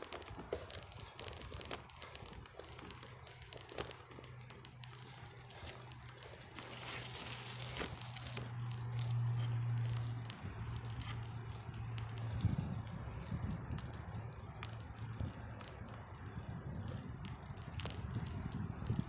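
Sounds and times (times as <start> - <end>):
bicycle clicks and rattles: 0.0 - 19.0
bicycle riding hum: 0.0 - 19.0.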